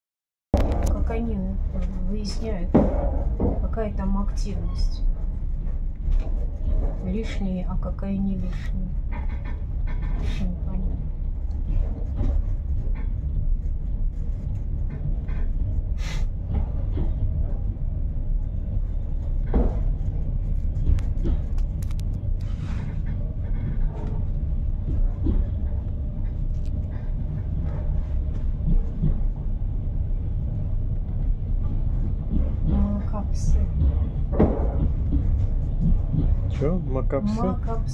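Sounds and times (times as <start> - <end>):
train wheels rumbling on rails: 0.6 - 37.9.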